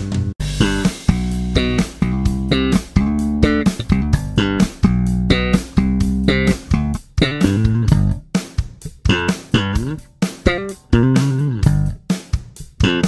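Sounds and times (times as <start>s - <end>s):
slap bass guitar notes: 0.0s - 12.1s, 12.7s - 13.0s.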